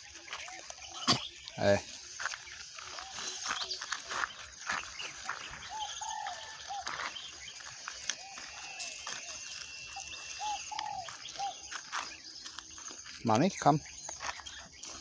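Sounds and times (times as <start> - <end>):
bird calling in arched notes: 0.0 - 15.0
faint footsteps on dirt path: 0.0 - 15.0.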